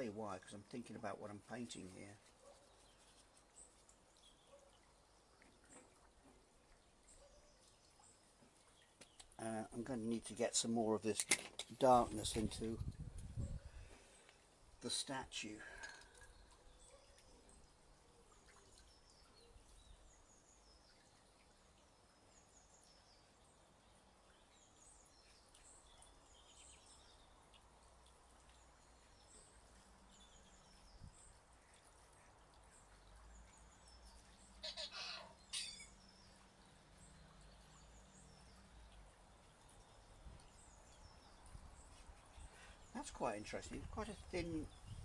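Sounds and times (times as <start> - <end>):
small birds chirping: 0.0 - 11.2, 11.8 - 45.0.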